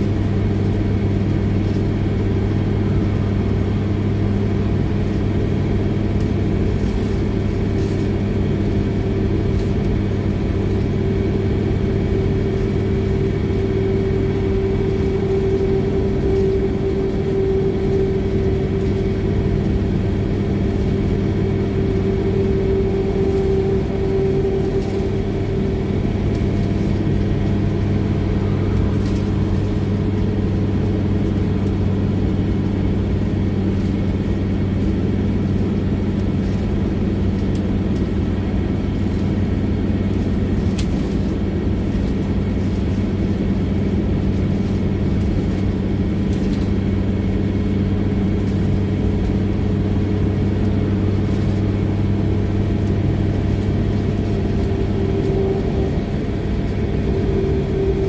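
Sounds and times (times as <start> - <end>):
bus engine drone: 0.0 - 58.0
road noise: 0.0 - 58.0.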